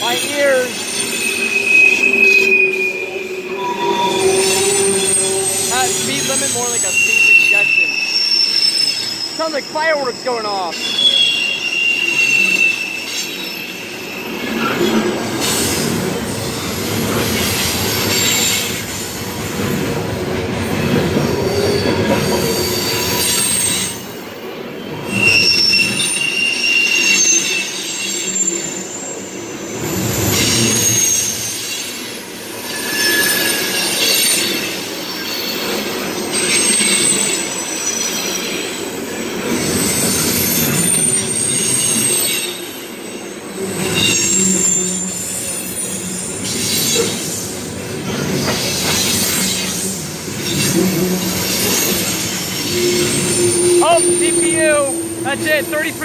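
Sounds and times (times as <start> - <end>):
freight train wheels rumbling: 0.0 - 56.0
train wheel squeals: 0.0 - 56.0.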